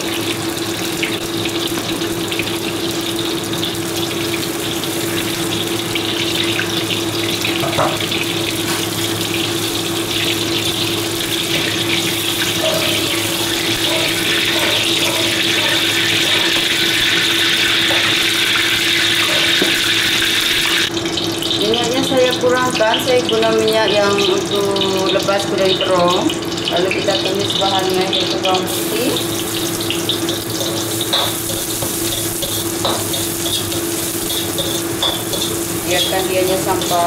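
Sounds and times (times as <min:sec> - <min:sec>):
oil sizzling in a wok: 0:00.0 - 0:37.0.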